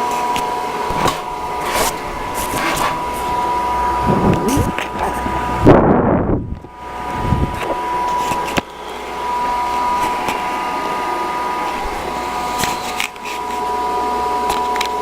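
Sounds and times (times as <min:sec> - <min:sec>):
fan heater whirring: 0:00.0 - 0:15.0.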